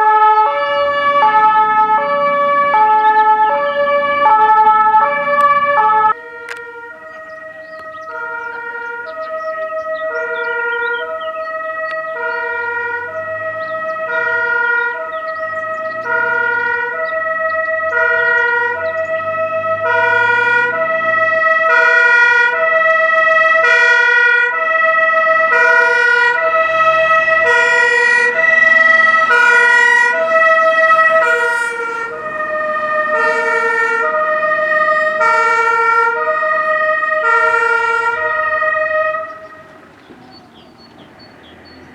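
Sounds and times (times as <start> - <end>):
truck engine rumbling: 0.0 - 41.9
two-tone fire engine siren: 0.0 - 41.9.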